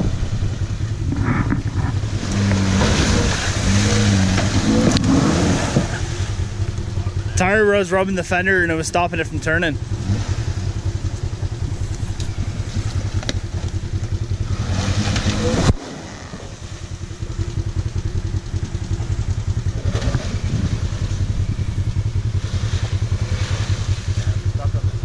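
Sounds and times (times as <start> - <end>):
engine revving under load: 0.0 - 25.0.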